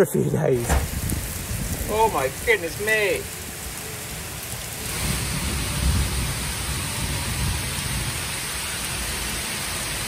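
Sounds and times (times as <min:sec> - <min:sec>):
heavy rain pouring: 0:00.4 - 0:10.0
low thunder rumble: 0:00.6 - 0:10.0.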